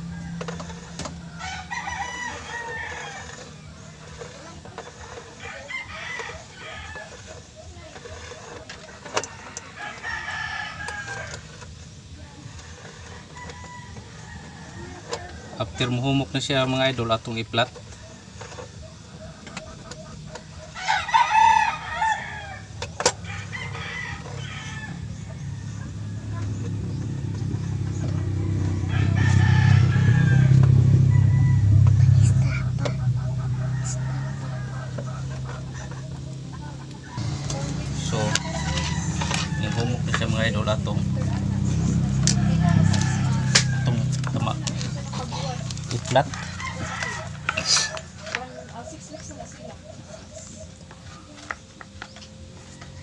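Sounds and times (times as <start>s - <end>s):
rooster crowing: 0.0s - 7.5s, 8.1s - 11.6s, 12.6s - 16.5s, 17.8s - 50.7s
steady low hum: 0.0s - 53.0s.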